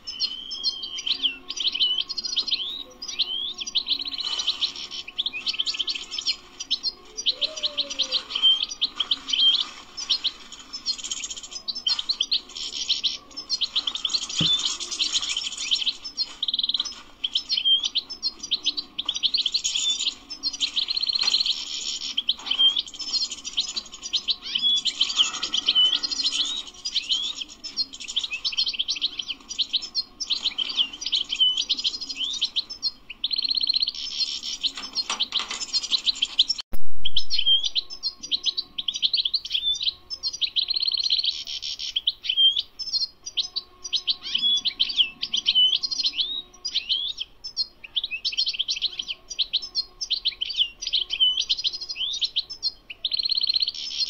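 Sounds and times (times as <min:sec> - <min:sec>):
finch twittering song: 0:00.0 - 0:54.0.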